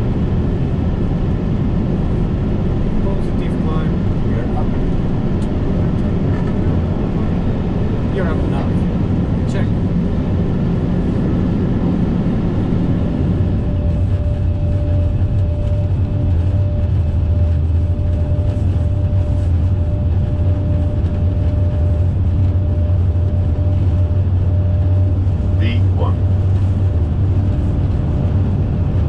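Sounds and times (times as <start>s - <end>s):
low hum of jet engines: 0.0s - 29.0s
thin steady whine: 0.0s - 29.0s.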